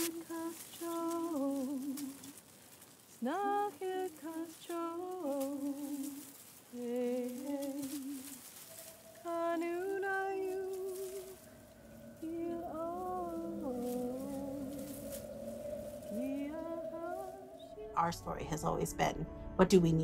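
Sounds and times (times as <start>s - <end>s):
woman singing: 0.0s - 2.3s, 3.2s - 8.4s, 9.1s - 15.1s, 16.0s - 18.8s.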